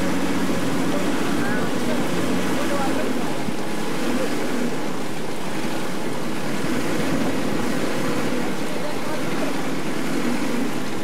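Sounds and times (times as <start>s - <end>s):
small boat motor running: 0.0s - 11.0s
water rushing past hull: 0.0s - 11.0s.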